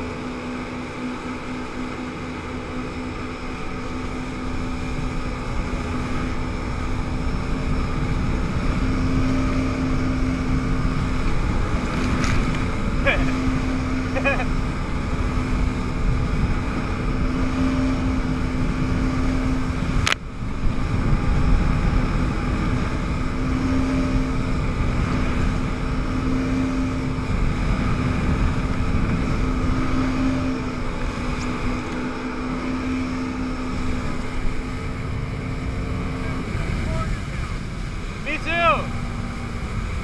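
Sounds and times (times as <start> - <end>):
jet ski engine running: 0.0 - 40.0
rushing water and air: 0.0 - 40.0.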